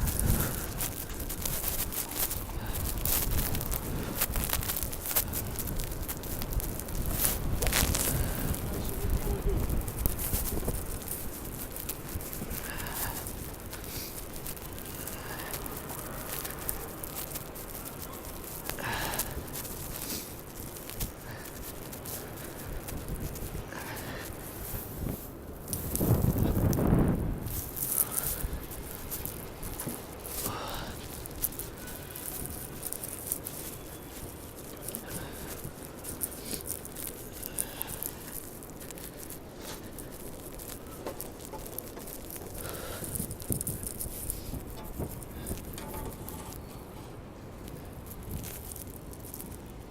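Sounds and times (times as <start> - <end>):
wind and snow rushing: 0.0 - 46.6
low street rumble: 0.0 - 49.9
rapid pattering ticks: 0.0 - 49.9.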